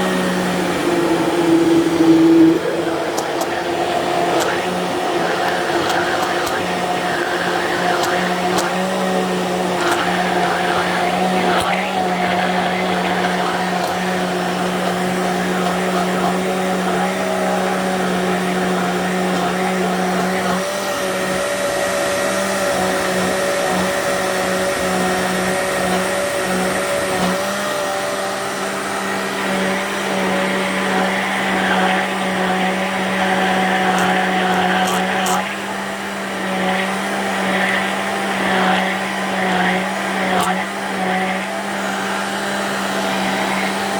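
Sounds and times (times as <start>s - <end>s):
electric blender motor whine: 0.0s - 43.9s.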